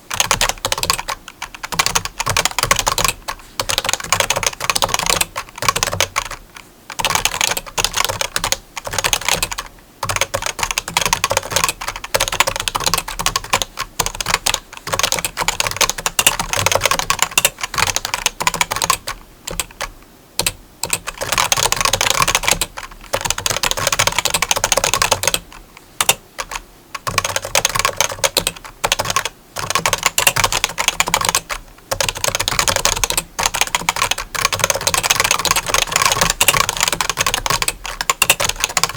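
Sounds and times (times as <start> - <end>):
rapid typing clicks: 0.0 - 38.9.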